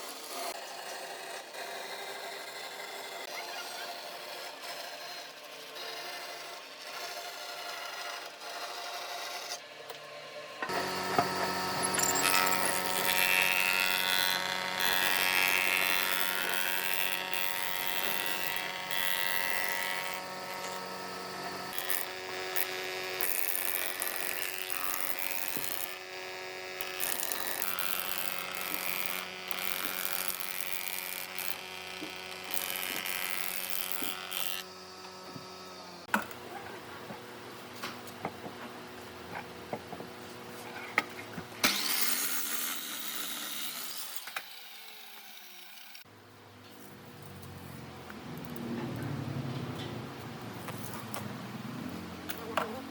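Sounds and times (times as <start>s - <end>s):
wood being cut: 0.0s - 46.1s, 46.9s - 52.9s
woodworking machine motor running: 0.0s - 46.1s.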